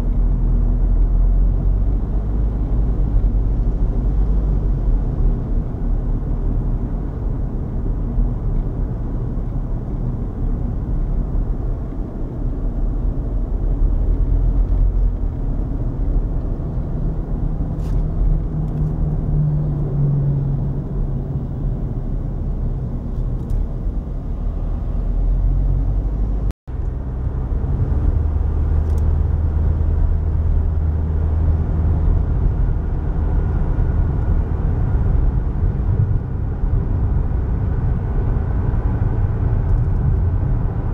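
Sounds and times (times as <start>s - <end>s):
car road noise rumble: 0.0s - 40.9s.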